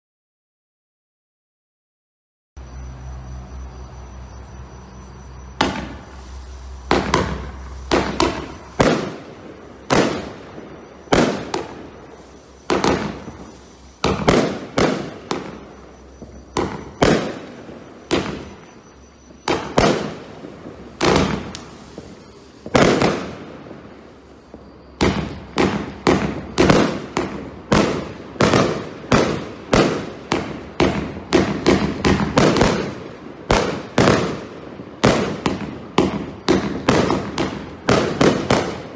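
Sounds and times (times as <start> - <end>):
firework bangs: 5.2 - 38.9.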